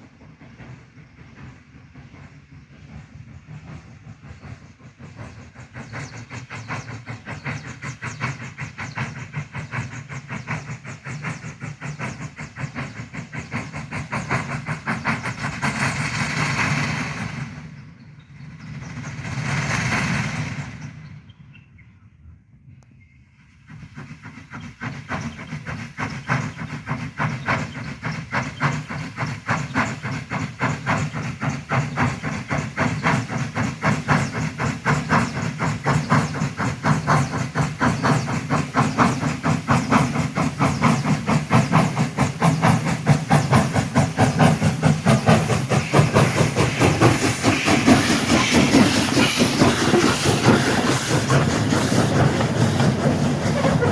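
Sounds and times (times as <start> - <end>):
steam rushing: 0.0 - 21.3, 23.3 - 53.9
steam locomotive chuffing: 0.0 - 53.9.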